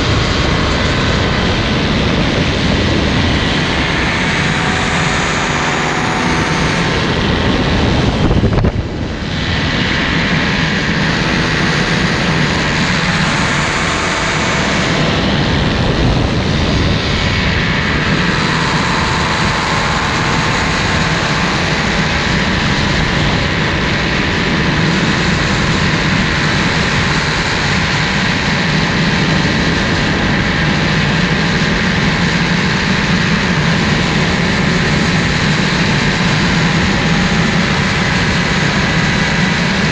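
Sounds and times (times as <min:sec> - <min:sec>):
air rushing on microphone: 0:00.0 - 0:39.9
paramotor engine and propeller: 0:00.0 - 0:39.9.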